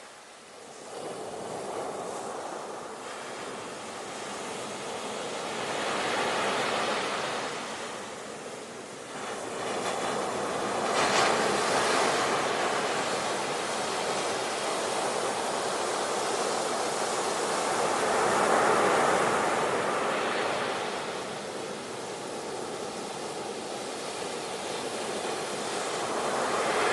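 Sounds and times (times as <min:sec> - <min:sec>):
ocean waves breaking on shore: 0:00.0 - 0:26.9.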